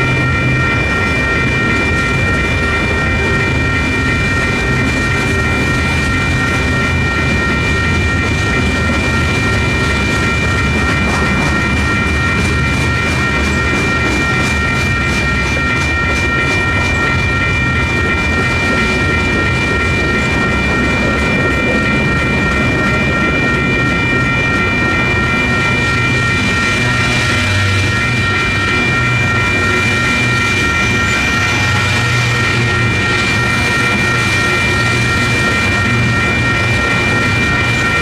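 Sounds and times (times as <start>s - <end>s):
crossing bells ringing: 0.0s - 38.0s
freight train rumbling: 0.0s - 38.0s.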